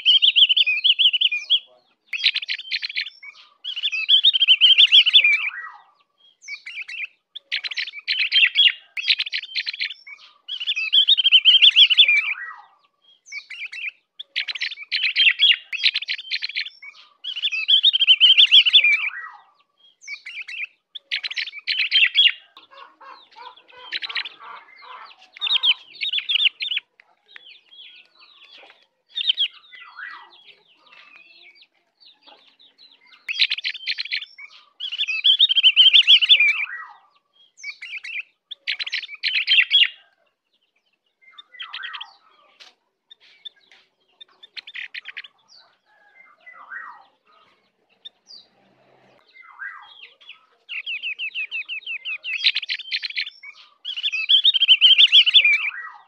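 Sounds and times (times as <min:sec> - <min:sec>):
bird chattering and twittering: 0:00.0 - 0:56.0.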